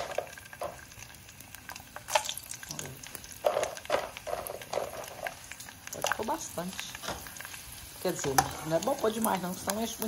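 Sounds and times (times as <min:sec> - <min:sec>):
pork skin sizzling in hot oil: 0:00.0 - 0:10.0
sharp pops and crackles: 0:00.0 - 0:10.0.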